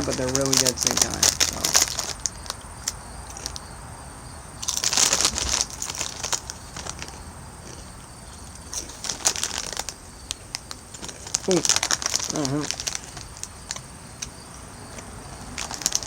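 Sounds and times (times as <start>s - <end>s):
chip bag crinkling: 0.0s - 3.7s, 4.6s - 16.0s
chips being eaten: 0.0s - 3.7s, 4.6s - 16.0s.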